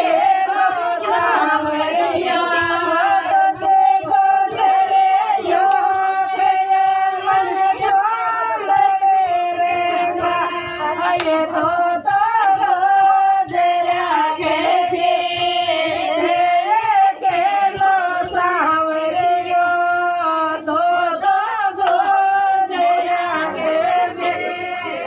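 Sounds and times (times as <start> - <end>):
steady percussive beat: 0.0 - 20.2
group of women singing folk song: 0.0 - 25.0.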